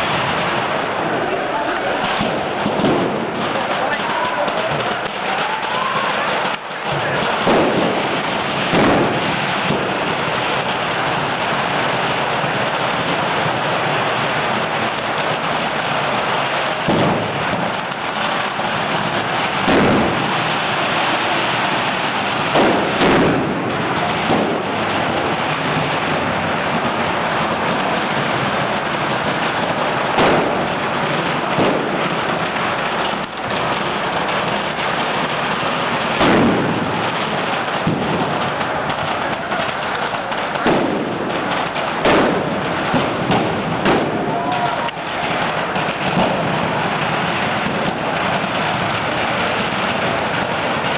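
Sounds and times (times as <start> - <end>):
bonfire crackling: 0.0 - 50.9
firecrackers banging: 0.0 - 50.9.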